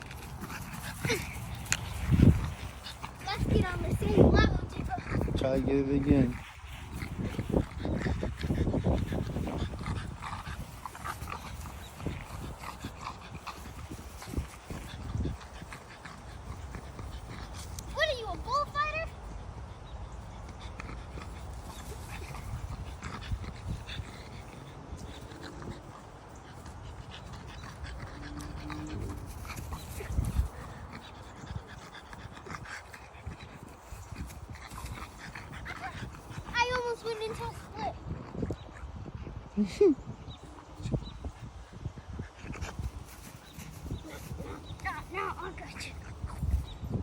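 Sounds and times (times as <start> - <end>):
dog breathing and vocalizing: 0.0 - 47.0.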